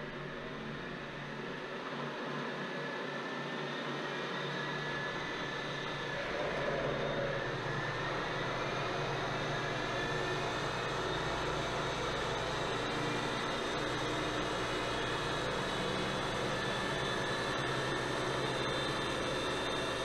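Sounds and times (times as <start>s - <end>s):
faint rising whine: 2.5s - 20.0s.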